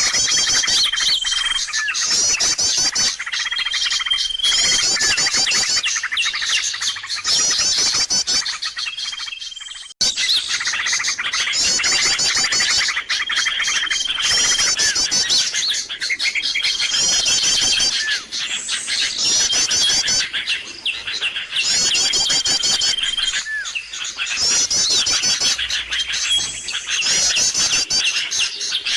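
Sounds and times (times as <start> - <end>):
small birds chirping and trilling: 0.0 - 28.9.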